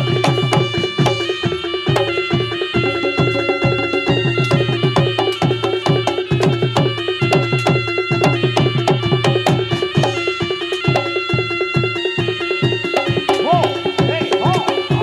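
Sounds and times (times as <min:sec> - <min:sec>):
fast gamelan percussion: 0:00.0 - 0:15.0
ringing metallic tones: 0:00.0 - 0:15.0.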